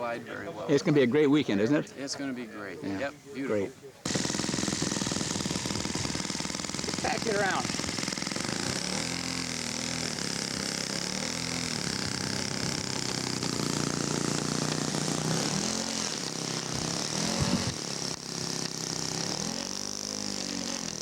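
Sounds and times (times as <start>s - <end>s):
model airplane engine revving: 4.0s - 21.0s.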